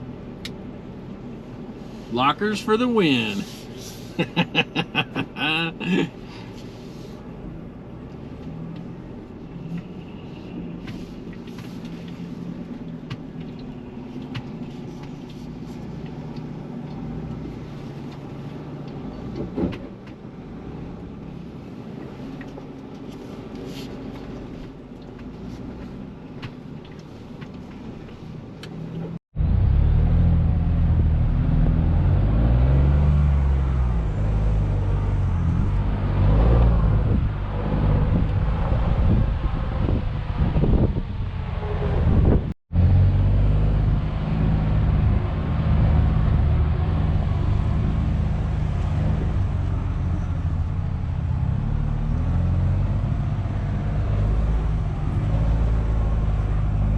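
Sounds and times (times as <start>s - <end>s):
truck engine hum: 0.0s - 56.9s.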